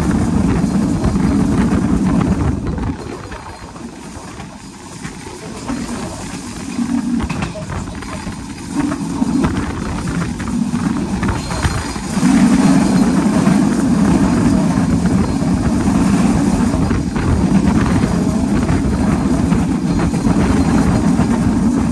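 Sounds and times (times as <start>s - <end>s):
passenger coach rumbling: 0.0s - 21.9s
wind buffeting: 0.0s - 21.9s.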